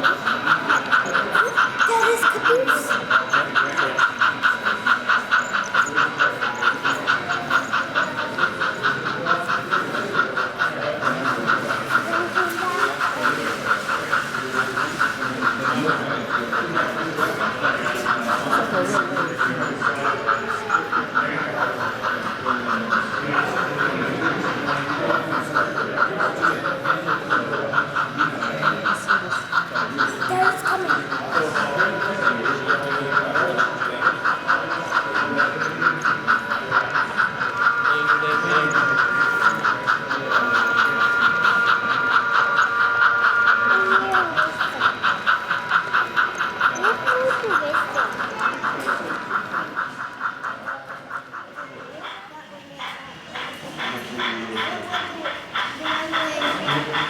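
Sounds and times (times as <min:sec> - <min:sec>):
model steam locomotive chuffing: 0:00.0 - 0:57.0
murmur of voices: 0:00.0 - 0:57.0.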